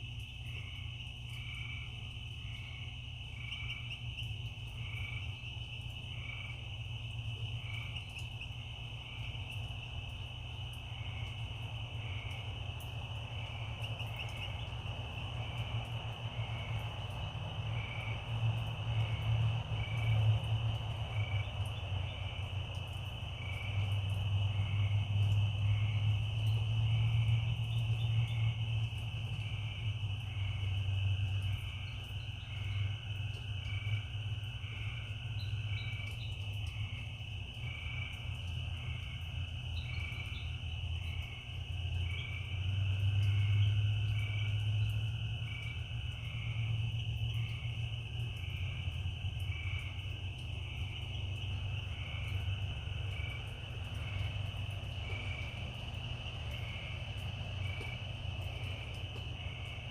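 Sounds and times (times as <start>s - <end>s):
insect trill: 0.0s - 59.9s.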